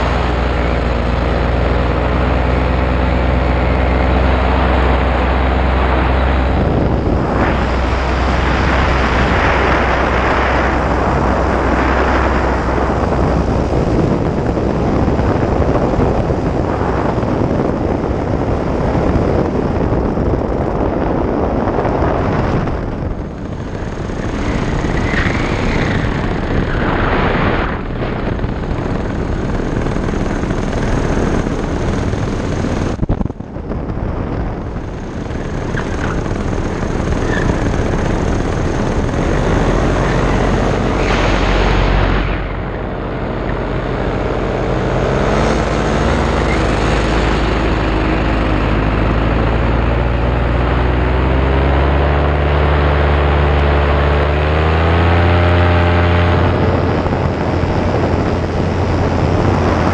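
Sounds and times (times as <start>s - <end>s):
paramotor engine: 0.0s - 59.9s
wind buffeting microphone: 0.0s - 59.9s.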